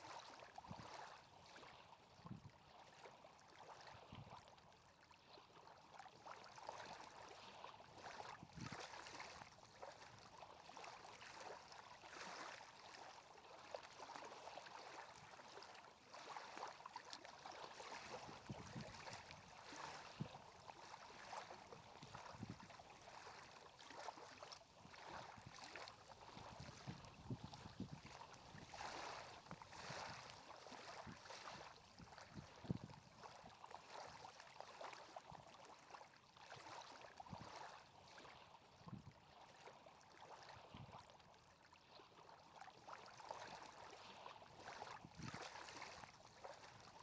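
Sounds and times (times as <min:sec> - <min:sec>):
small water splashes: 0:00.0 - 0:47.0
water lapping: 0:00.0 - 0:47.0.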